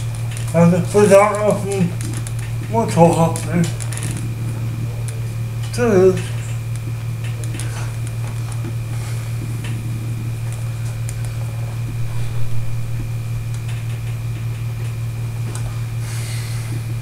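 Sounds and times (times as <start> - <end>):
high-pitched whine: 0.0 - 17.0
low mechanical hum: 0.0 - 17.0.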